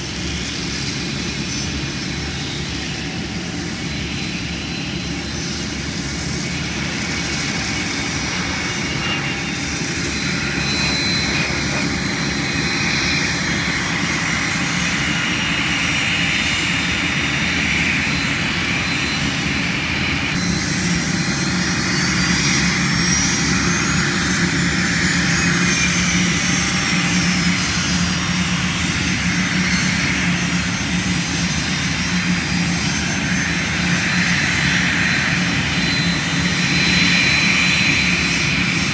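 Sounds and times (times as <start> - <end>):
jet engines whining: 0.0 - 38.9
jet passing by: 0.0 - 38.9.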